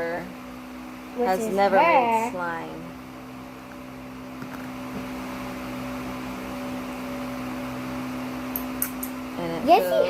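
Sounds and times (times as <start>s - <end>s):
appliance fan humming: 0.0s - 10.0s.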